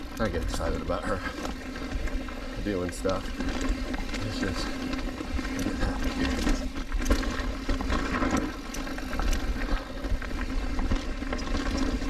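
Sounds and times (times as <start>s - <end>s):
bike clicks and rattles: 0.0s - 12.0s
tyre and wind rumble: 0.0s - 12.0s.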